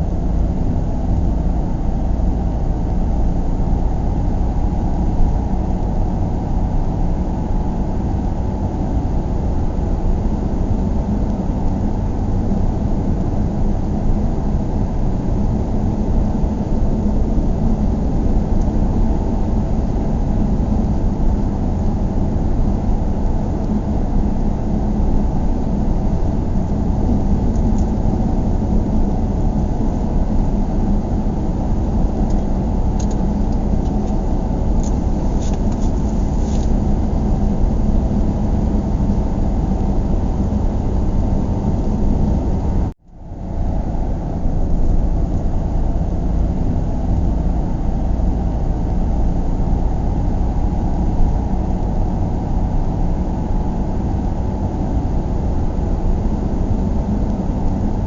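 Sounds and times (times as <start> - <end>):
car driving road noise: 0.0 - 58.0.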